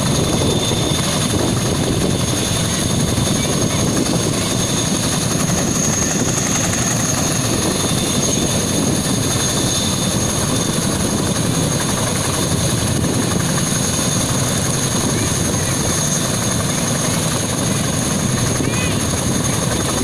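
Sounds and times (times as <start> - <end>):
helicopter rotor noise: 0.0 - 20.0
high turbine whine: 0.0 - 20.0.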